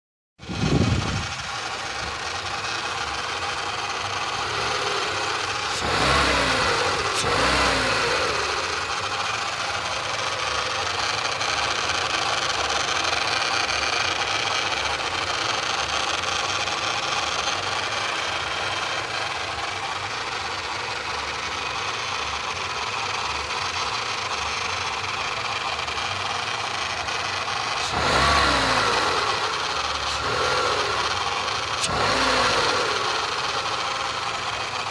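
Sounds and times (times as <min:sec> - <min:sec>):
car engine idling and revving: 0:00.4 - 0:34.9
strange engine noise: 0:00.4 - 0:34.9.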